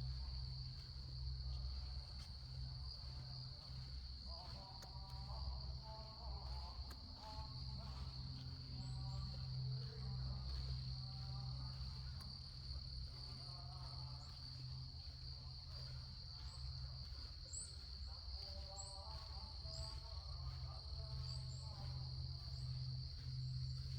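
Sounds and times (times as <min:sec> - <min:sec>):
faint voices talking: 0:01.6 - 0:23.9.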